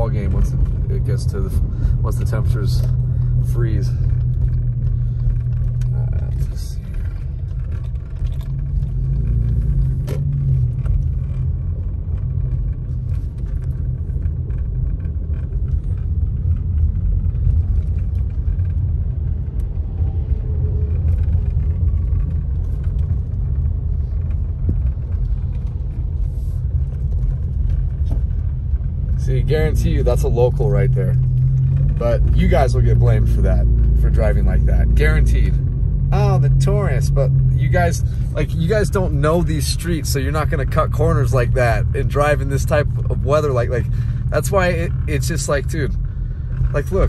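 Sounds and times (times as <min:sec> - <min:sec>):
car driving on wet road: 0:00.0 - 0:47.0.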